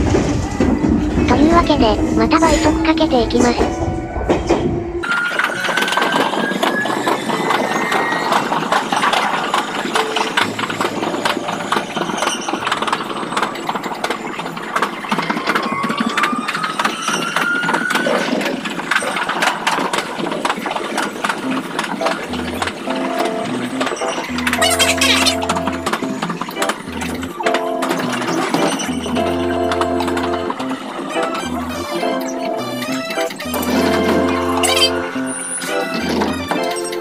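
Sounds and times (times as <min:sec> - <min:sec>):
electric train motors whining: 0:00.0 - 0:37.0
train wheels clattering: 0:00.0 - 0:37.0.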